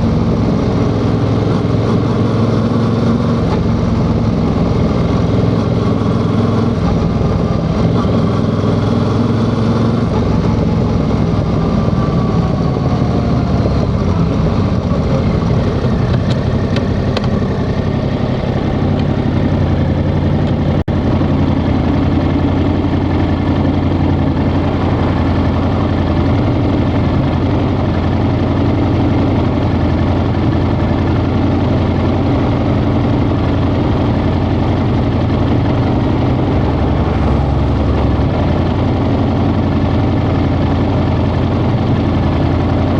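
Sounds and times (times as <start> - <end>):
motorcycle engine idling: 0.0 - 9.0, 9.8 - 42.9.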